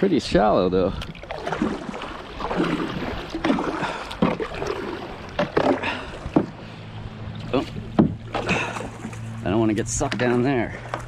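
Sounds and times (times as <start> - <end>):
paddle splashing in water: 1.0 - 9.4, 10.0 - 11.0.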